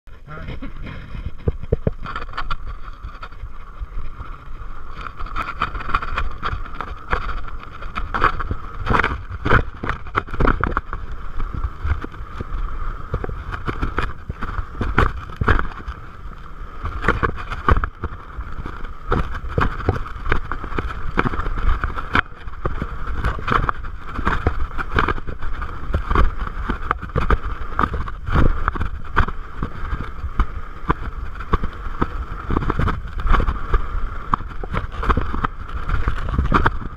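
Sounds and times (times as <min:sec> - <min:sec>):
tyre hum: 0:00.1 - 0:36.9
wind on microphone: 0:00.1 - 0:36.9
bike rattling over rocks: 0:00.2 - 0:36.9.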